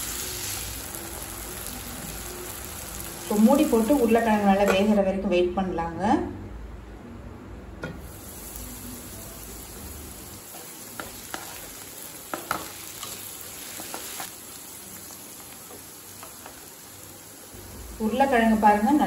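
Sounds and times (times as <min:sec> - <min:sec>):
potatoes sizzling in oil: 0:00.0 - 0:05.0, 0:08.0 - 0:19.0.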